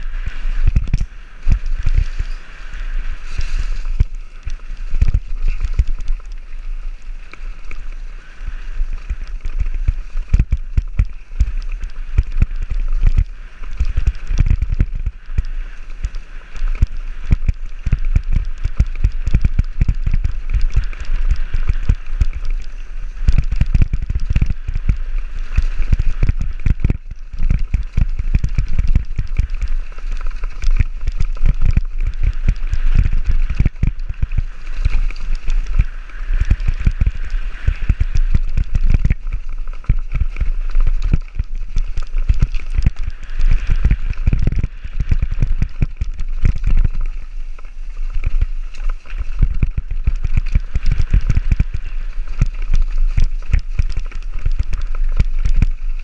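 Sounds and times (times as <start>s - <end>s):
bike knocking and rattling: 0.0s - 56.0s
low wind rumble on microphone: 0.0s - 56.0s
tyres crackling over leaves and stones: 0.0s - 56.0s.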